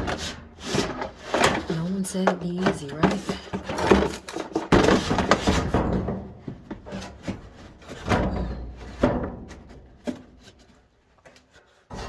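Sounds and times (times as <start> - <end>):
toolbox knocking and scraping: 0.0 - 10.8.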